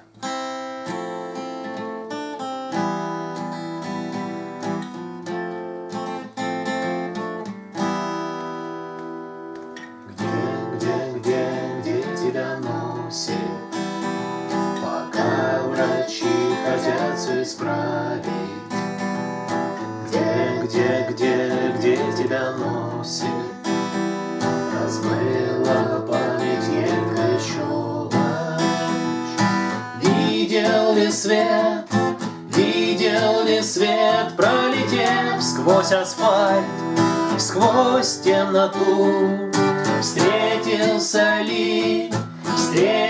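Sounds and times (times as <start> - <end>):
acoustic guitar chords: 0.0 - 43.0.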